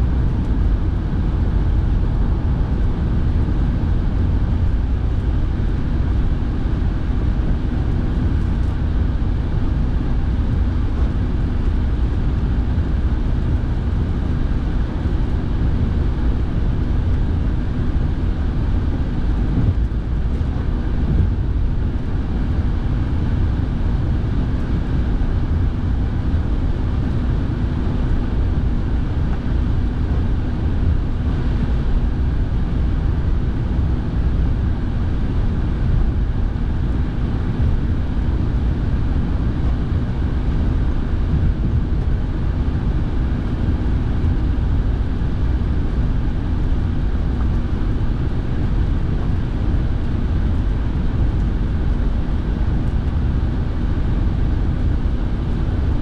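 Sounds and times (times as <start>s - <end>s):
car road noise and engine hum: 0.0s - 56.0s
heater fan running: 0.0s - 56.0s.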